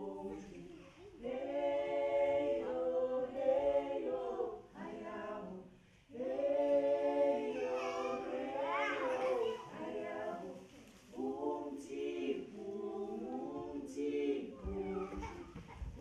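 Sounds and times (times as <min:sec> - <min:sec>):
voices singing unaccompanied: 0:00.0 - 0:16.0.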